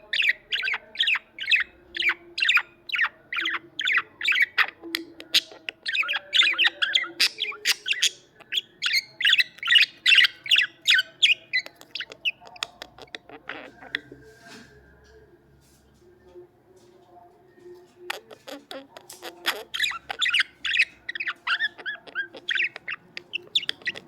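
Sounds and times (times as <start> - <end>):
budgerigars chirping and chattering: 0.0 - 14.4, 17.7 - 24.0.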